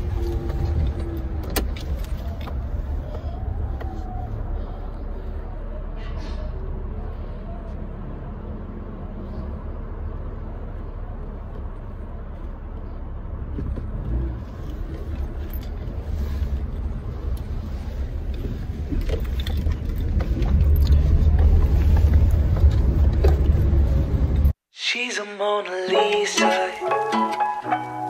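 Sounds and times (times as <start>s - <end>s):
car engine and road rumble: 0.0s - 24.6s.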